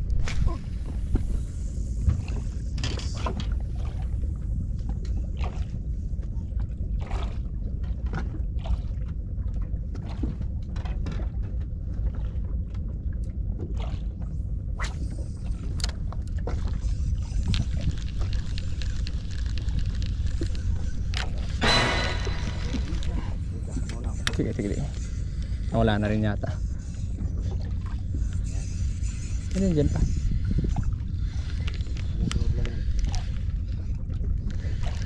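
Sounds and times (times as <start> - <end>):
steady low rumble: 0.0 - 35.0
waves lapping against boat: 0.0 - 35.0.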